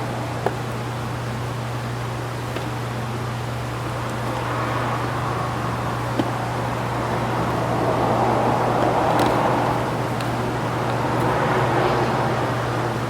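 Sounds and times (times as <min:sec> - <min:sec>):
noisy wash: 0:00.0 - 0:13.0
steady low hum: 0:00.0 - 0:13.0.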